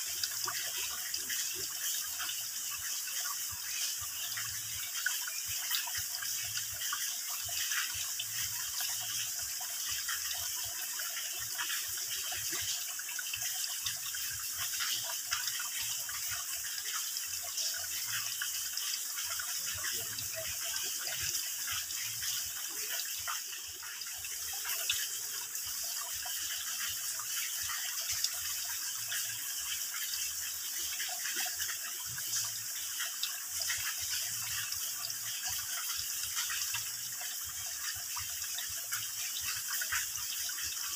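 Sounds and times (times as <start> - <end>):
water dripping into a pool: 0.0 - 40.9.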